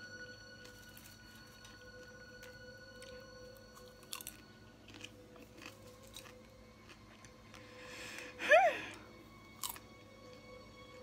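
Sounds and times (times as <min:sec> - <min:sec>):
popcorn crunching: 0:00.4 - 0:11.0.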